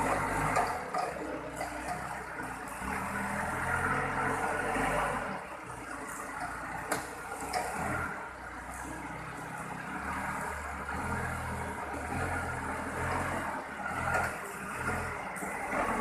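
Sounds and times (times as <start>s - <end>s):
forklift diesel engine running: 0.0s - 16.0s.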